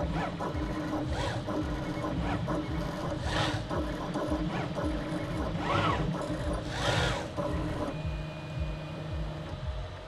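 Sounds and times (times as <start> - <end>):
stepper motors whining: 0.0 - 10.0.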